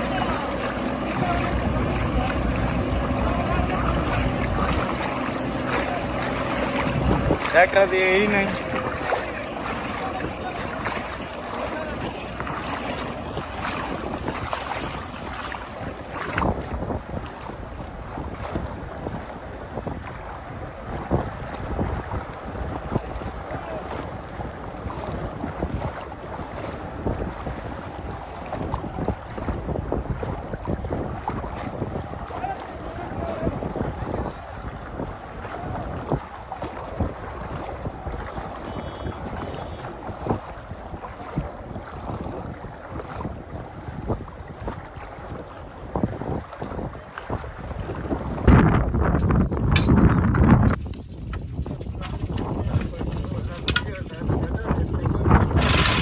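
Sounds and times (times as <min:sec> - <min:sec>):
river water: 0:00.0 - 0:56.0
wind buffeting microphone: 0:00.0 - 0:56.0.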